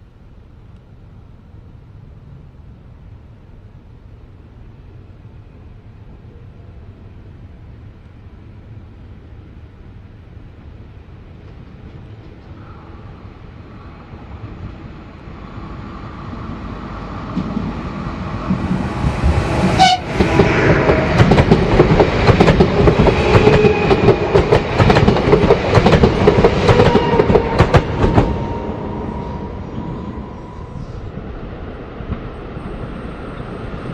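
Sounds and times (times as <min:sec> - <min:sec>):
train passing: 0:00.0 - 0:33.9.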